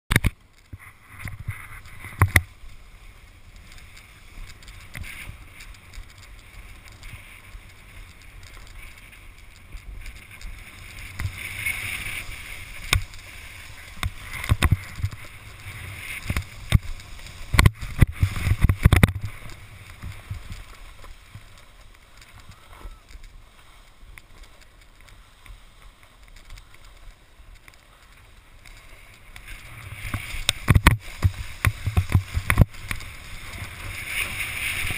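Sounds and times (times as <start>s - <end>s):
snowboard scraping over snow: 0.6s - 34.9s.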